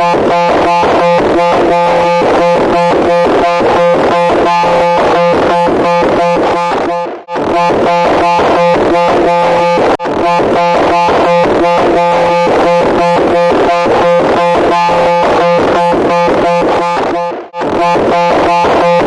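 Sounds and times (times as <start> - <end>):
harsh electronic tone pulsing: 0.0 - 19.0.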